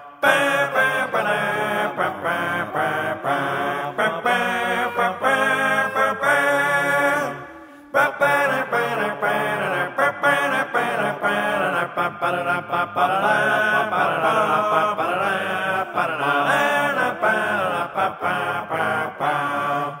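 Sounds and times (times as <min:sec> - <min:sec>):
song with sung vocals: 0:00.0 - 0:20.0.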